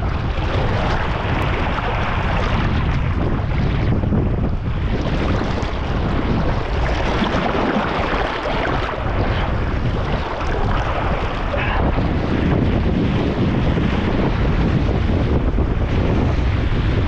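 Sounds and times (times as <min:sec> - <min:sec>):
water rushing and splashing: 0:00.0 - 0:17.0
wind buffeting microphone: 0:00.0 - 0:17.0.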